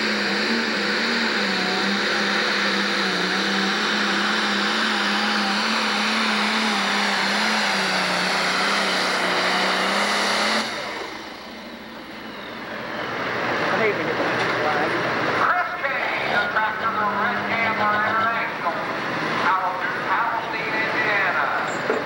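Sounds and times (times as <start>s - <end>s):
diesel tractor engine under heavy load: 0.0s - 22.0s.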